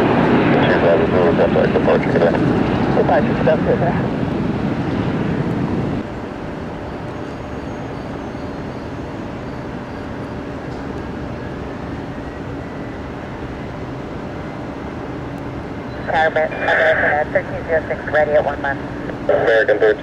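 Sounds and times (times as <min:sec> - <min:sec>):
jet aircraft engine rush: 0:00.0 - 0:20.0
faint steady hum: 0:00.1 - 0:20.0.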